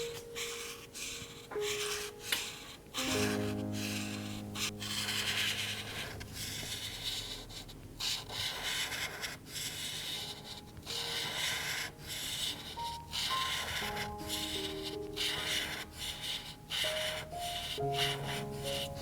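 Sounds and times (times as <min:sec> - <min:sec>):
marker scratching on paper: 0:00.0 - 0:19.0.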